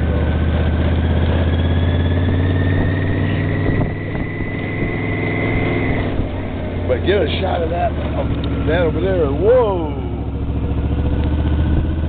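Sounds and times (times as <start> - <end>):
motorcycle engine running: 0.0 - 12.0
faint rising whine: 1.0 - 12.0.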